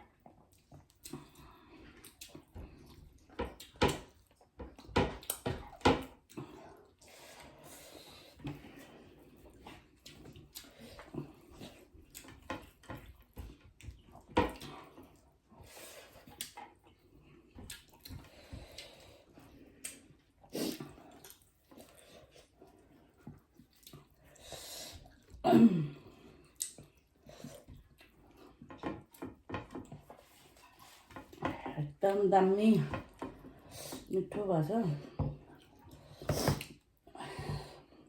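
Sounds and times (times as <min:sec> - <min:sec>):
wet chewing: 0:00.0 - 0:25.4, 0:26.1 - 0:31.7, 0:35.4 - 0:37.1.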